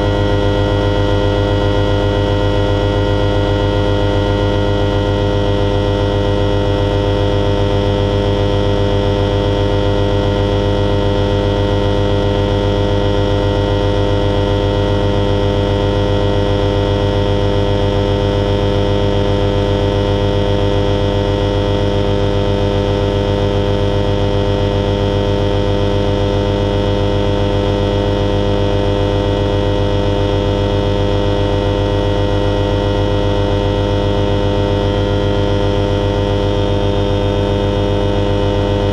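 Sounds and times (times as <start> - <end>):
glider engine and propeller hum: 0.0 - 38.9.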